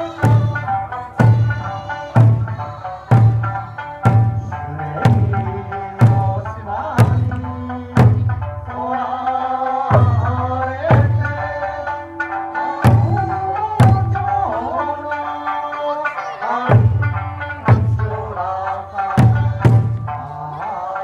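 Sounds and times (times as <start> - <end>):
folk song singing: 0.0 - 21.0.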